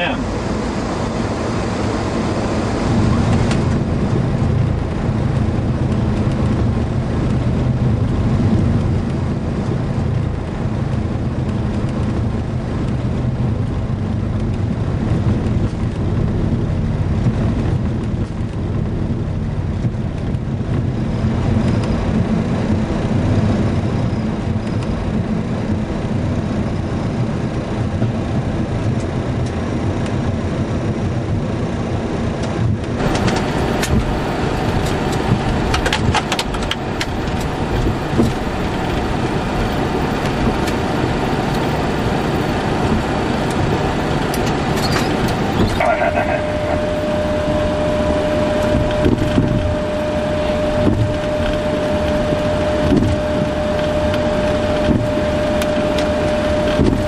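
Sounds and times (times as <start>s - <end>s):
aircraft engine and wheel rumble: 0.0s - 57.0s.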